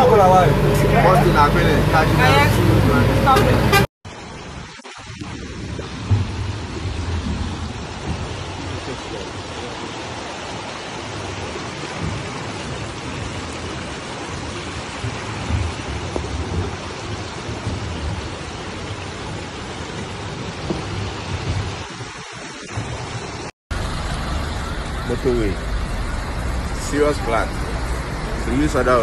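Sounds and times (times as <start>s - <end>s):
heavy rain pouring: 0.0s - 29.0s
rushing floodwater: 0.0s - 29.0s.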